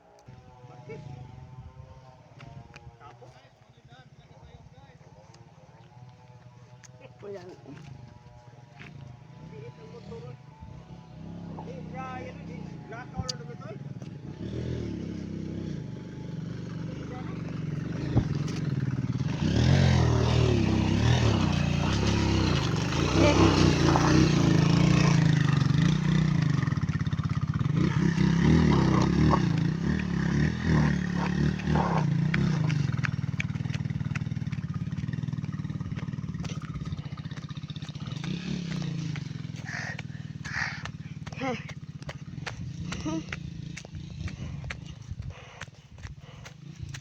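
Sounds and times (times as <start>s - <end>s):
motorcycle engine revving: 5.2s - 47.0s.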